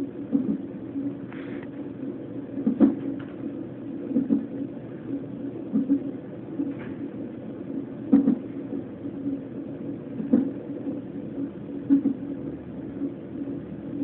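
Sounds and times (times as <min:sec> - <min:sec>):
whooshing fetal heartbeat: 0:00.0 - 0:14.0.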